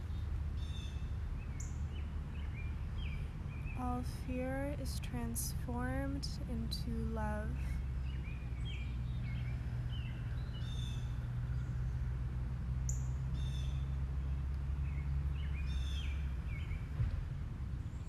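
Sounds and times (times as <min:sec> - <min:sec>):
small birds chirping: 0:00.0 - 0:05.6, 0:06.3 - 0:12.1, 0:12.8 - 0:17.0
low rumble: 0:00.0 - 0:18.0.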